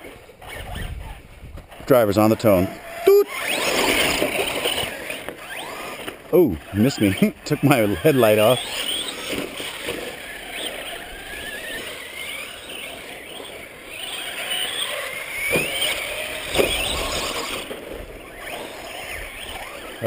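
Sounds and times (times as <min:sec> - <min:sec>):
toy truck motor whining: 0:00.0 - 0:20.0
tyres rumbling on dirt: 0:00.0 - 0:20.0.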